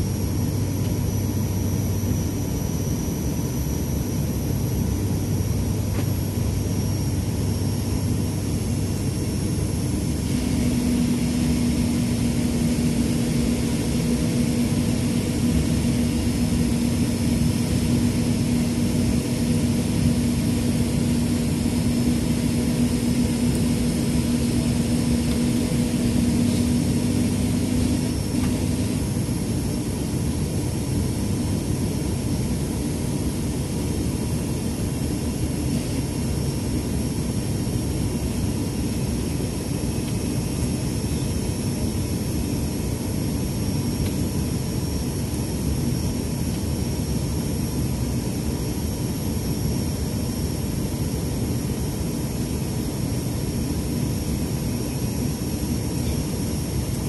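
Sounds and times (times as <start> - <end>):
low hum: 0.0 - 47.5
propeller engine drone: 0.0 - 57.0.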